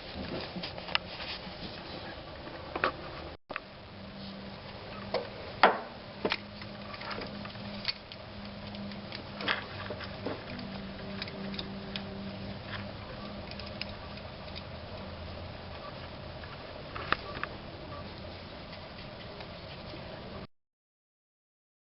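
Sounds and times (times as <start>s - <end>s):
steady low hum: 0.0s - 20.5s.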